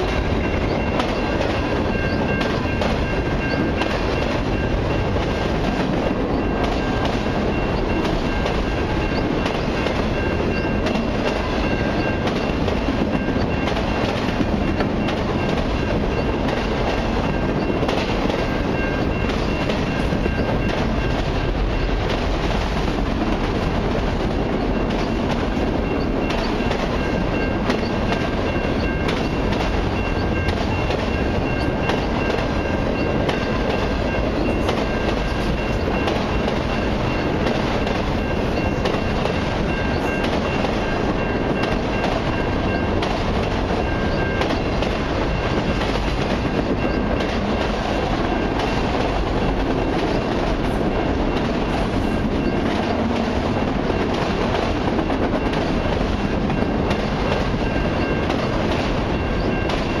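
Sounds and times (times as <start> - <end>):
train wheels rumbling on rails: 0.0 - 60.0
wheels clicking over rail joints: 0.0 - 60.0.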